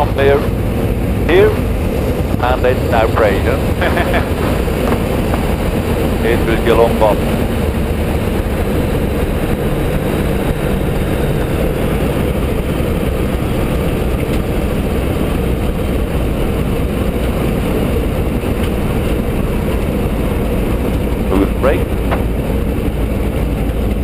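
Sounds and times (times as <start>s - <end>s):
biplane engine running: 0.0s - 24.0s
wind noise: 0.0s - 24.0s.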